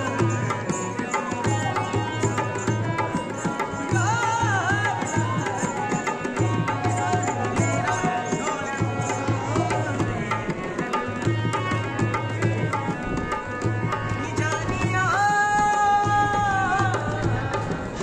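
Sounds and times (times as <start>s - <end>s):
harmonium melody: 0.0s - 18.0s.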